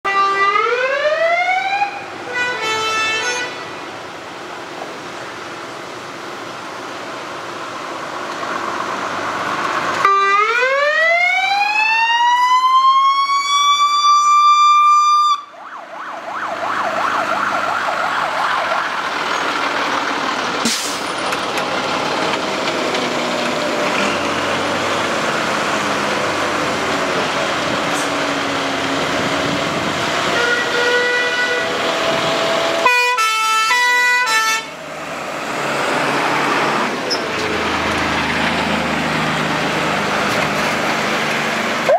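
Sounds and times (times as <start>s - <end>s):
fire engine siren rising: 0.1s - 3.5s, 9.8s - 41.9s
diesel engines pulling away: 0.6s - 41.9s.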